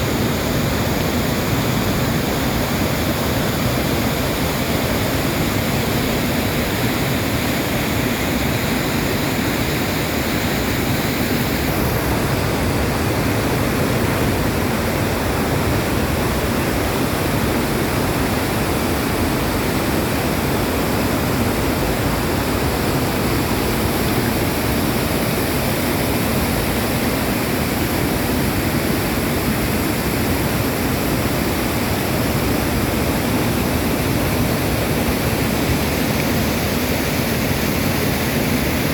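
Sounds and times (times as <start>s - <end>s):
waterfall rushing into pool: 0.0s - 38.9s.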